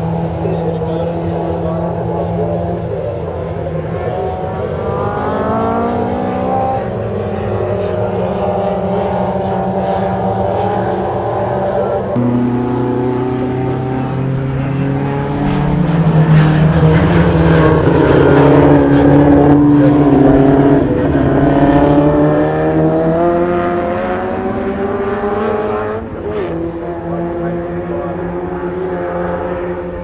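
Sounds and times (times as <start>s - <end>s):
racing car engine revving: 0.0s - 30.0s.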